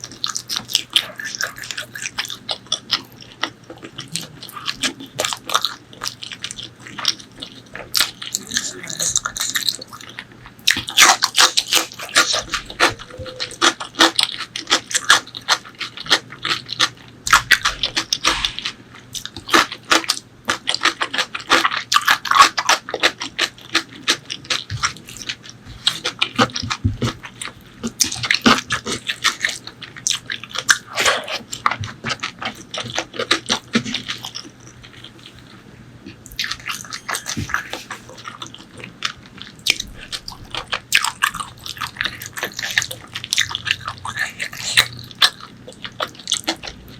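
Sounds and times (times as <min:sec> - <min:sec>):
close chewing and lip-smacking: 0:00.0 - 0:46.9.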